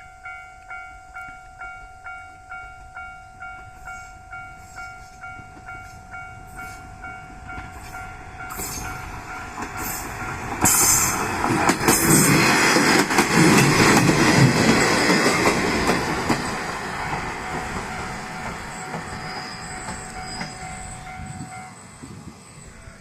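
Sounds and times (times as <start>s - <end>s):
approaching train: 0.0s - 23.0s
level-crossing warning bell ringing: 0.0s - 23.0s
wheels clicking on rail joints: 3.4s - 22.3s.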